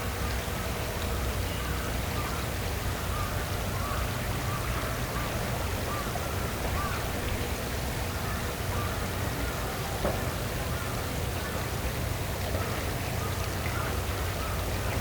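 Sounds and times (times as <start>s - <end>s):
flowing water hiss: 0.0s - 15.0s.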